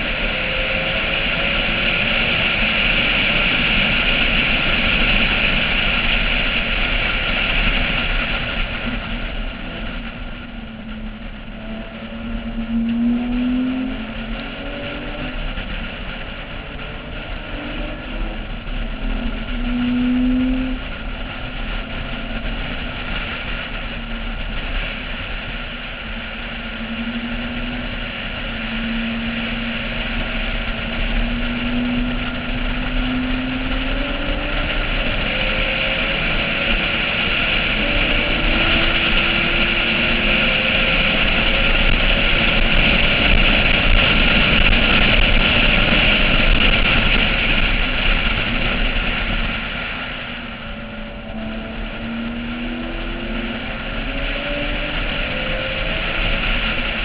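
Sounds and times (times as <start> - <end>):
car engine rising and falling: 0.0 - 57.0
wind rushing over microphone: 0.0 - 57.0.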